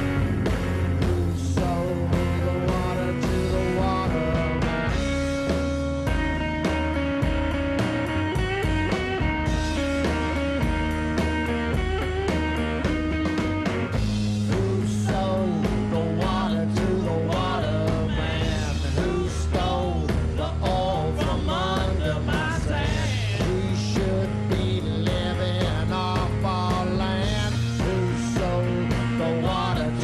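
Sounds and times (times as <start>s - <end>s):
drums and bass beat: 0.0s - 30.0s
rockabilly band playing live: 0.0s - 30.0s.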